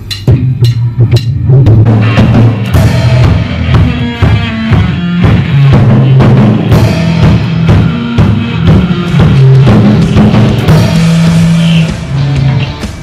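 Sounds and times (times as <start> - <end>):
drum kit beat: 0.0 - 13.0
electric guitar notes: 0.0 - 13.0.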